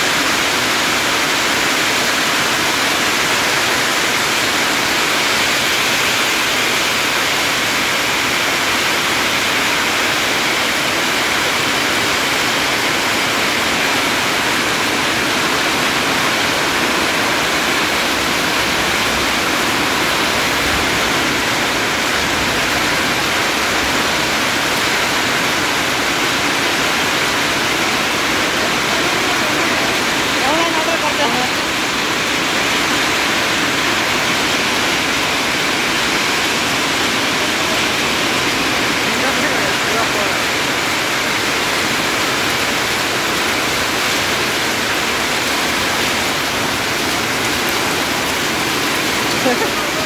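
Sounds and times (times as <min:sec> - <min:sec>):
hail and rain pelting metal: 0:00.0 - 0:50.0.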